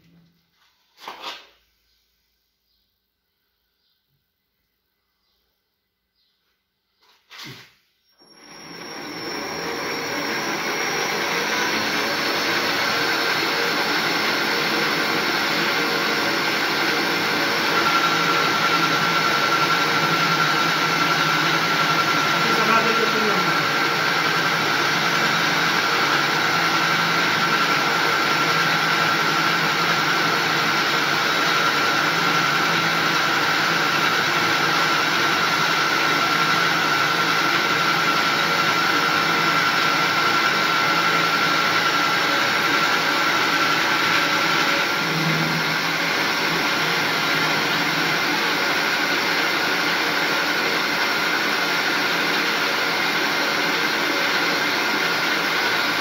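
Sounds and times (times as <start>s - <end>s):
metal lathe running: 8.4s - 56.0s.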